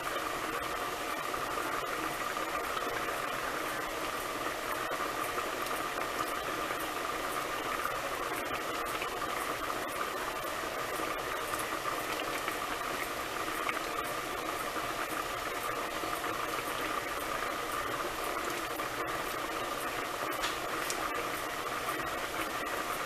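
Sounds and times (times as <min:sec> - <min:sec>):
pot boiling with bubbling: 0:00.0 - 0:23.0.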